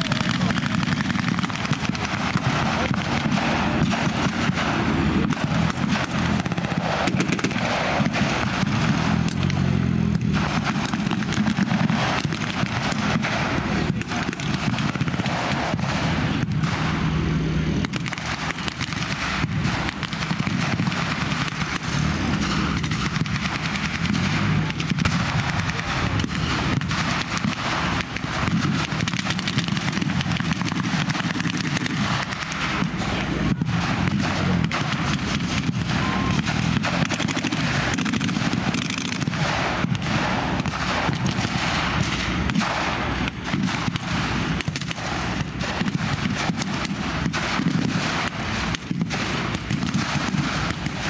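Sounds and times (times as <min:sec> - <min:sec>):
military vehicle engines rumbling: 0:00.0 - 0:51.0
rifle and machine gun fire: 0:00.0 - 0:51.0.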